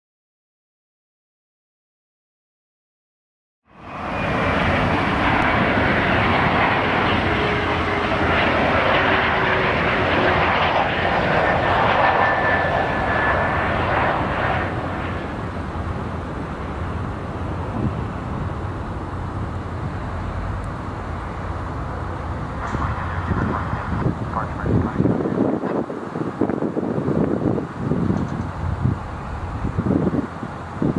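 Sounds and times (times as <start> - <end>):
jet engines landing: 3.7 - 30.9.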